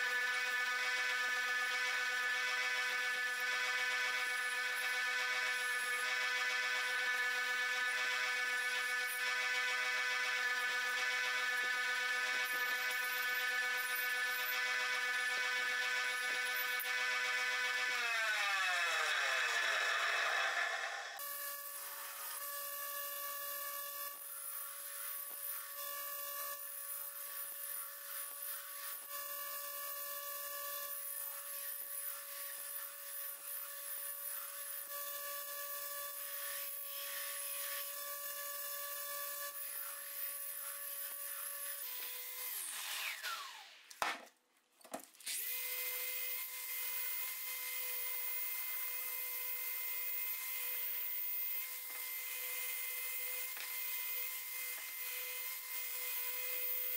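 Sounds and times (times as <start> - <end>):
random orbital sander: 0.0 - 44.0, 45.3 - 56.9
belt grinder grinding steel: 0.0 - 44.1, 45.1 - 56.9.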